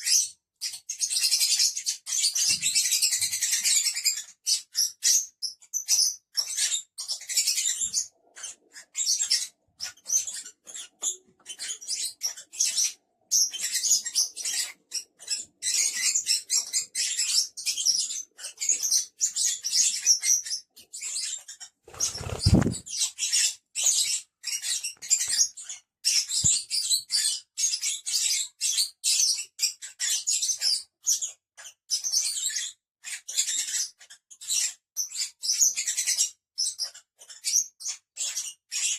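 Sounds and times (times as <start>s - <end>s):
lovebirds chattering and chirping: 0.0s - 38.9s.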